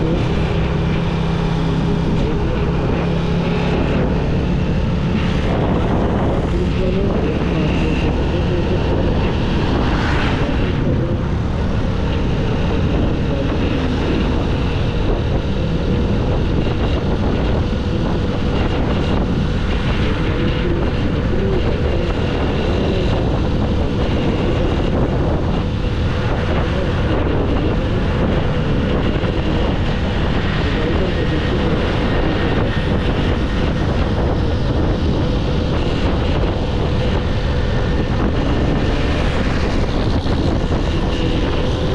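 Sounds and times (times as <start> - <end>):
motorcycle engine running: 0.0 - 41.9
wind buffeting microphone: 0.0 - 41.9.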